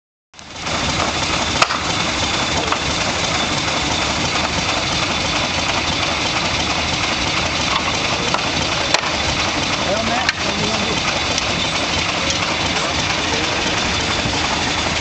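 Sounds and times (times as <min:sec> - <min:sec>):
steam fire engine hissing: 0:00.4 - 0:15.0.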